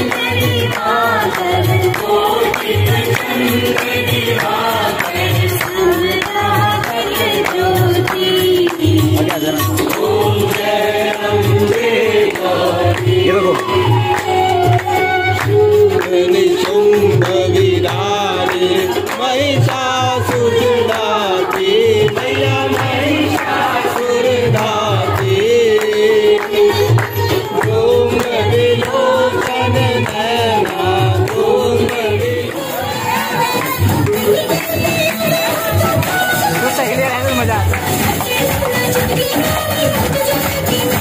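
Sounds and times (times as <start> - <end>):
person singing devotional song: 0.0 - 41.0
steady drum beat: 0.0 - 41.0.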